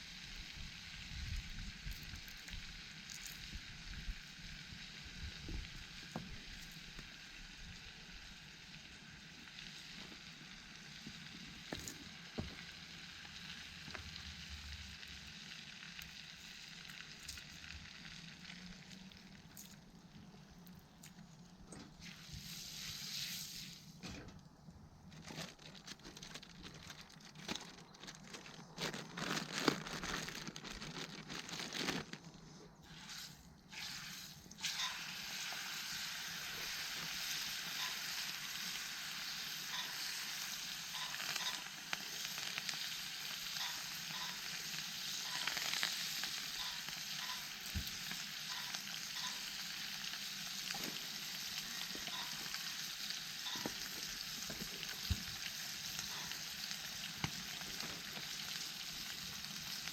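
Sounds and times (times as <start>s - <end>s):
food sizzling in a pan: 0.0s - 19.1s, 22.0s - 23.9s, 32.9s - 59.9s.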